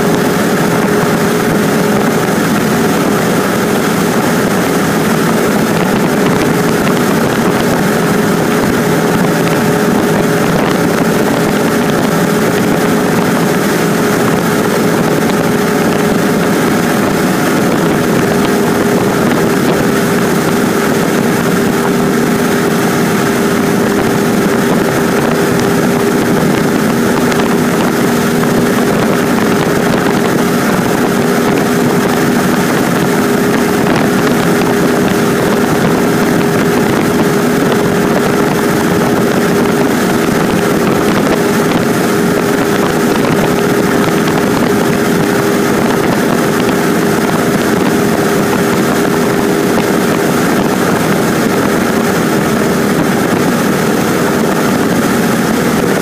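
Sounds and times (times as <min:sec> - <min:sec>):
rush of air: 0:00.0 - 0:56.0
small plane engine drone: 0:00.0 - 0:56.0.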